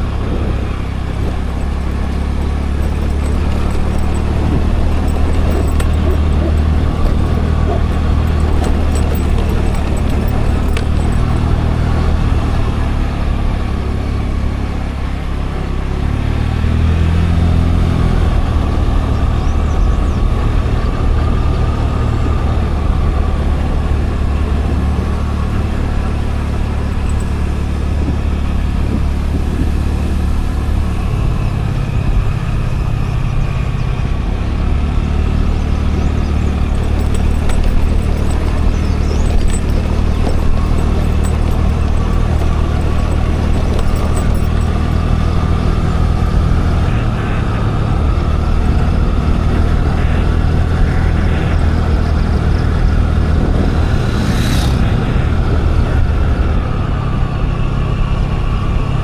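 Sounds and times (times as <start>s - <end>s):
road and wind noise: 0.0s - 59.0s
scooter engine running: 0.0s - 59.0s.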